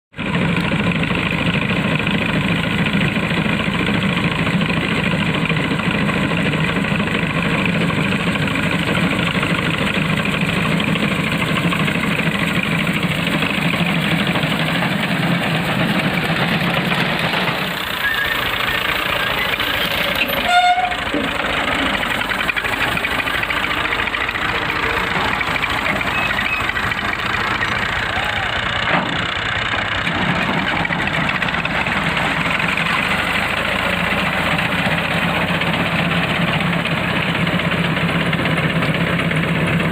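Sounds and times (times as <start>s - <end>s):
tractor engine running: 0.1s - 39.9s.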